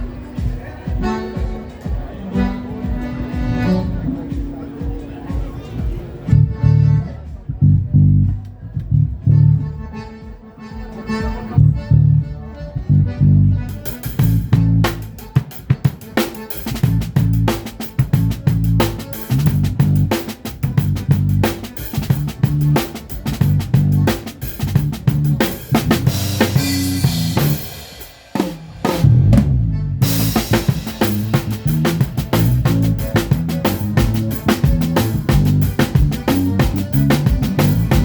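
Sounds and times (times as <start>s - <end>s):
drum kit groove: 0.0s - 9.6s, 12.9s - 38.0s
bass line: 0.9s - 10.3s, 11.1s - 28.0s, 28.8s - 38.0s.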